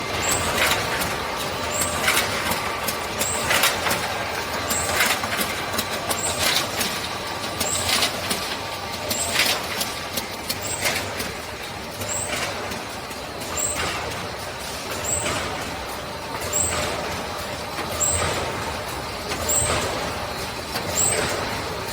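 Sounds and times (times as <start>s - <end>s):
production line machinery: 0.0s - 21.9s.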